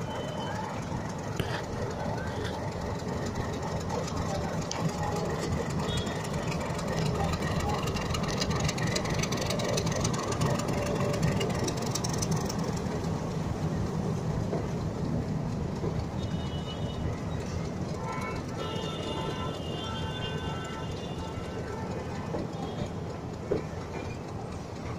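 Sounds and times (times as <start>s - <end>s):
train rumbling along tracks: 0.0s - 24.9s.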